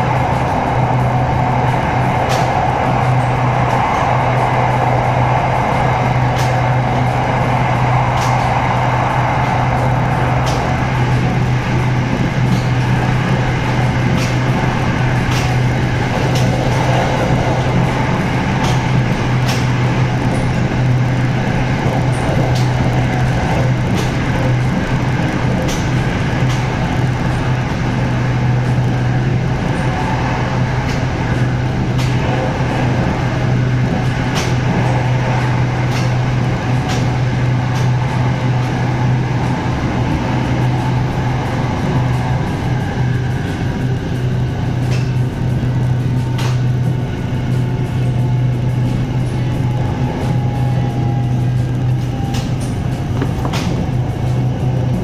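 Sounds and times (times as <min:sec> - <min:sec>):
electric train running: 0:00.0 - 0:55.0.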